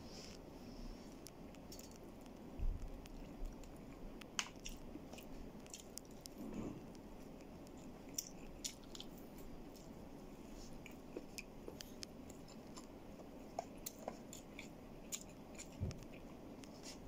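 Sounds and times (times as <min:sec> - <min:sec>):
man chewing: 0:01.2 - 0:17.0.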